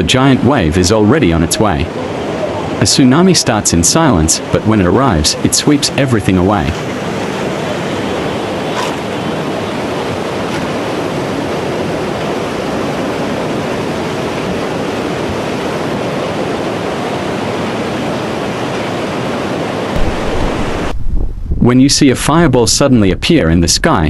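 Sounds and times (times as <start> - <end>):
rush of surging seawater: 0.0 - 21.0.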